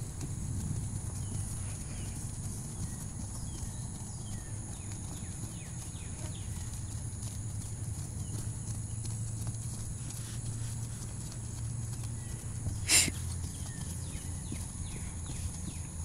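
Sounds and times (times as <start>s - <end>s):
horse trotting on grass: 0.0s - 16.0s.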